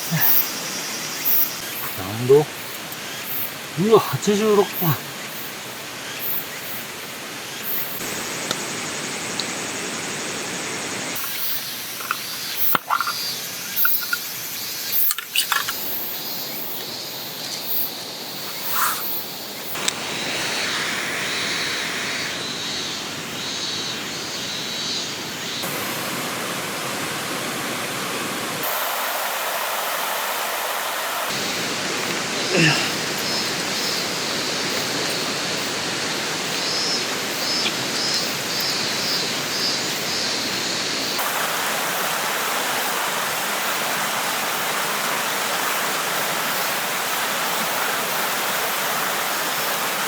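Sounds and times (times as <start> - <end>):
stream rushing: 0.0 - 23.4, 25.6 - 50.0.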